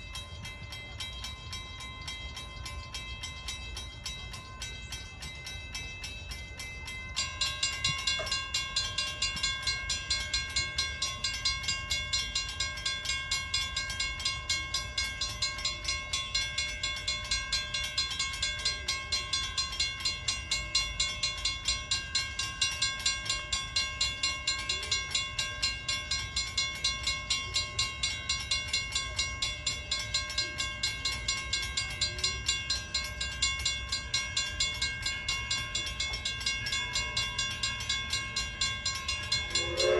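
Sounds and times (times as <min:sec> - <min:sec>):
railroad bell ringing: 0:00.0 - 0:39.9.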